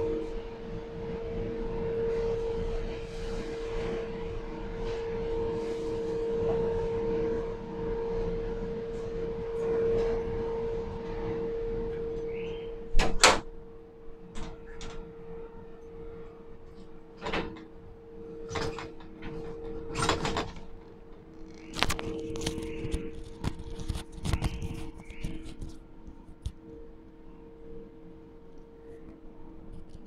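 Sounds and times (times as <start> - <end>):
industrial machinery hum: 0.0 - 30.0.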